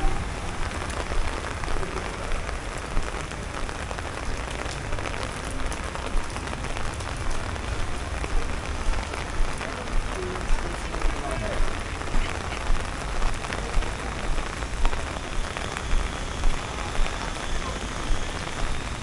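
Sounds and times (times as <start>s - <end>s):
heavy rain on street: 0.0s - 19.0s
raindrops tapping: 0.0s - 19.0s.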